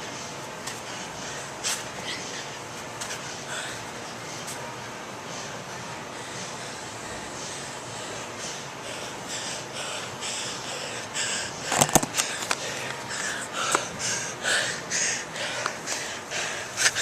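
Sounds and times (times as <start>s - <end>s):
person breathing hard: 0.7s - 4.4s, 5.5s - 17.0s.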